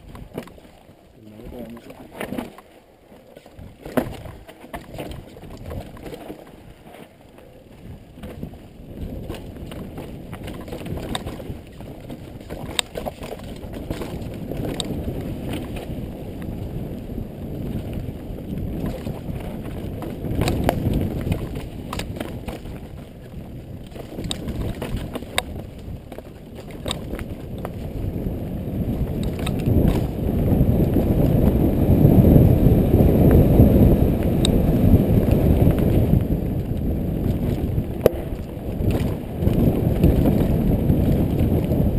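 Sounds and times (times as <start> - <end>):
wind on microphone: 0.0 - 2.6, 3.4 - 41.9
tyres rumbling on dirt trail: 0.0 - 41.9.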